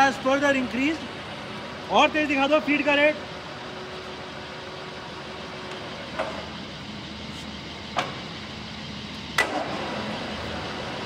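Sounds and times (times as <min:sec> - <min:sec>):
lathe running with mechanical hum: 0:00.0 - 0:11.0.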